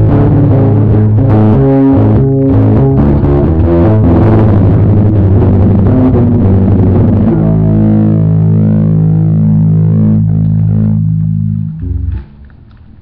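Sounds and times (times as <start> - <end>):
distorted guitar playing: 0.0 - 13.0.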